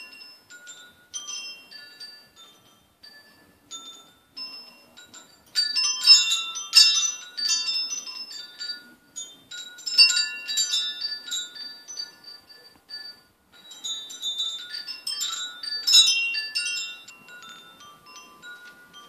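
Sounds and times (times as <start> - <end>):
tubular wind chime ringing: 0.0 - 19.0.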